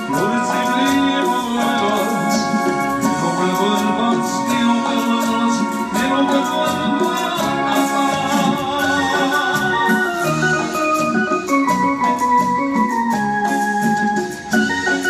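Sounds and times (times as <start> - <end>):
keyboard organ-like chords and melody: 0.0 - 15.0.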